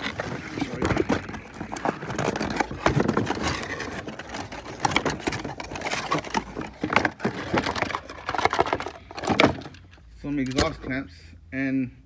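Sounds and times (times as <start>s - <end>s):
cardboard flaps rustling: 0.0s - 9.8s.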